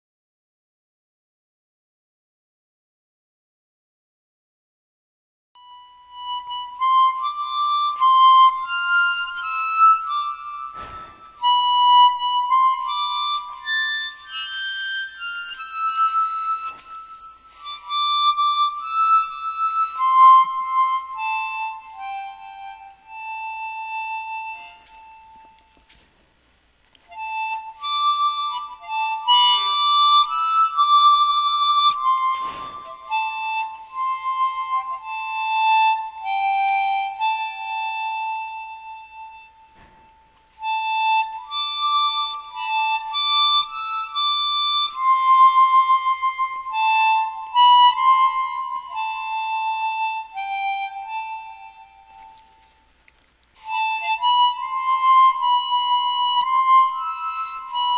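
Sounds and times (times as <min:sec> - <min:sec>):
harmonica melody: 0:05.6 - 0:57.9.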